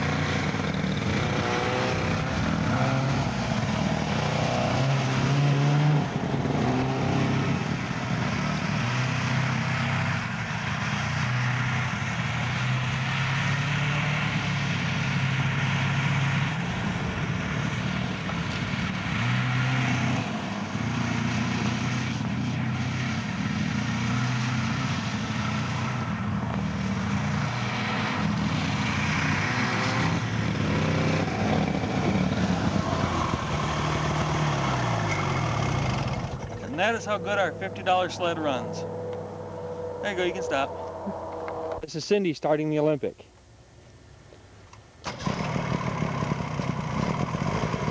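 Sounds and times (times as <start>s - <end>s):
snowmobile engine revving: 0.0s - 42.2s, 45.0s - 47.9s.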